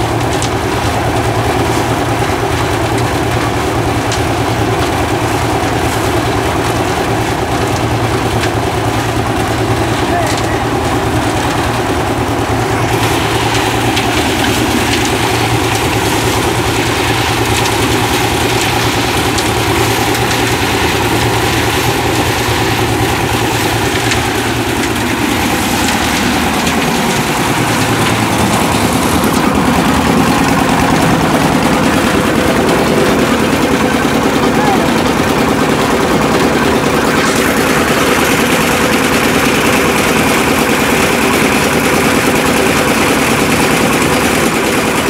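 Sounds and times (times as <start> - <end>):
concrete mixer engine droning: 0.0 - 45.0
stones rattling in mixer drum: 0.0 - 45.0.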